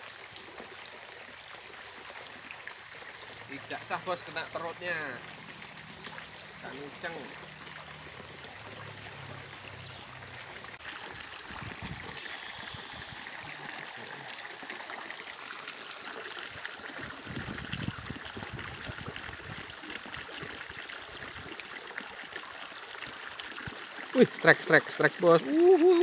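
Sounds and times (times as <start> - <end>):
stream babbling over rocks: 0.0 - 26.0.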